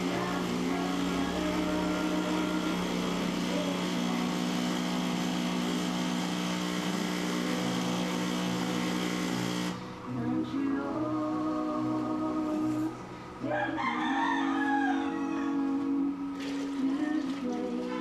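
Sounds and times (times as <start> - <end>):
espresso machine pump buzzing: 0.0 - 10.1, 12.4 - 18.0.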